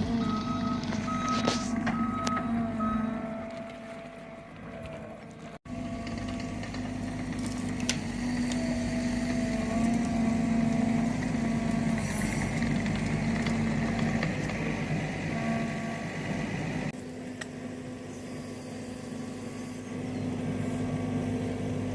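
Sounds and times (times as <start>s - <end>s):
engine humming: 0.0s - 21.9s.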